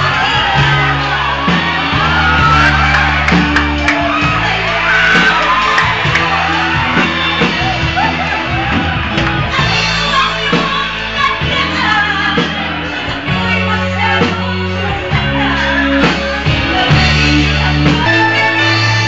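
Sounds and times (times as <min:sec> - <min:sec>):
live band playing slow song: 0:00.0 - 0:19.0
sustained bass notes: 0:00.0 - 0:19.0.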